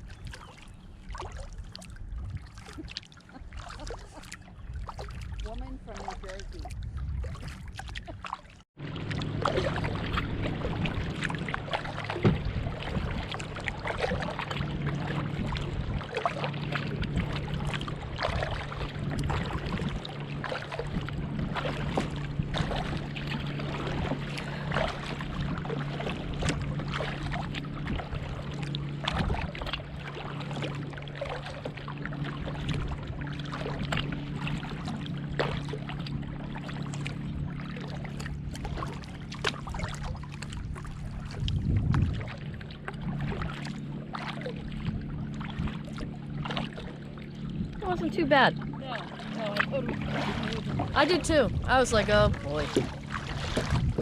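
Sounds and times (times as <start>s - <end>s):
water splashing along kayak hull: 0.0s - 54.0s.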